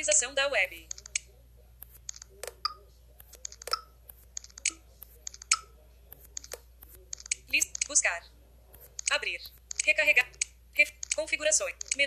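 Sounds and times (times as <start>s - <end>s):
finger tapping touchscreen: 0.9s - 8.0s, 8.7s - 12.0s.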